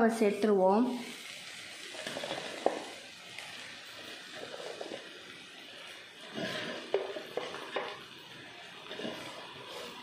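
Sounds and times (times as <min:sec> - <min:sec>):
faint sizzling in a pot: 0:00.0 - 0:10.0.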